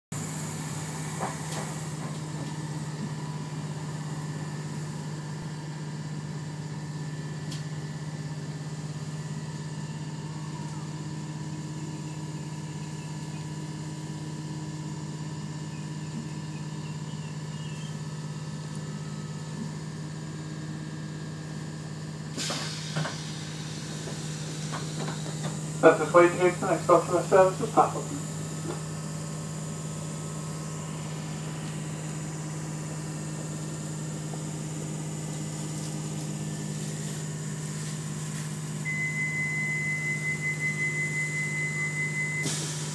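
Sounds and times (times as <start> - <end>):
train low hum: 0.1 - 42.9.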